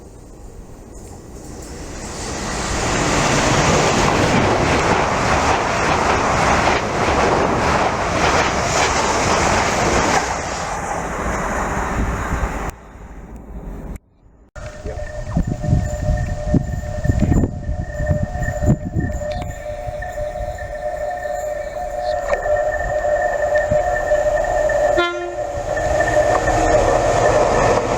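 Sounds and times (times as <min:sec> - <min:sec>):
train wheels rumbling on rails: 0:00.0 - 0:14.0, 0:14.6 - 0:27.9.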